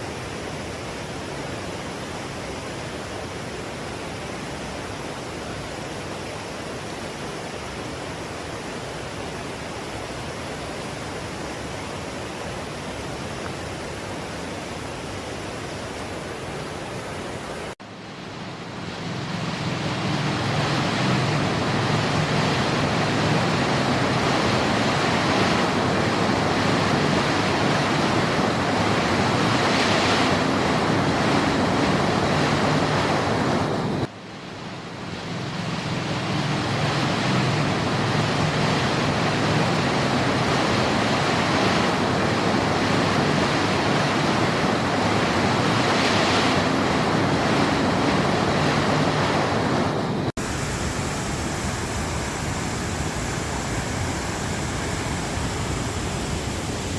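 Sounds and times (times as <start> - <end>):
fast-flowing stream rushing: 0.0 - 56.9.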